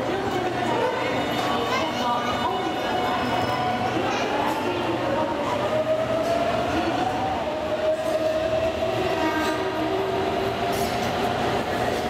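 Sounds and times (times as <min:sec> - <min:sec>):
rumble of train cars: 0:00.0 - 0:12.0.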